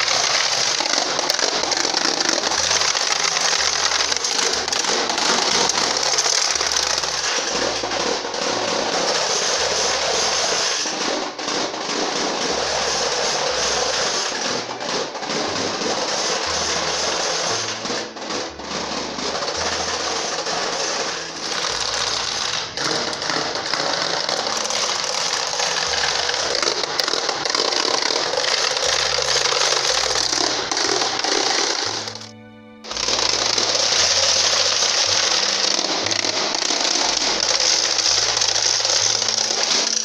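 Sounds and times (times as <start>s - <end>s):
wooden rattles clattering: 0.0s - 32.3s, 32.9s - 40.0s
low music notes: 0.0s - 40.0s.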